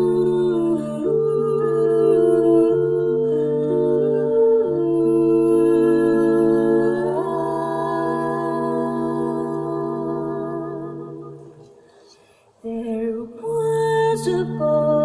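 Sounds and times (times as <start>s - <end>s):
vocal group humming chords: 0.0s - 15.0s.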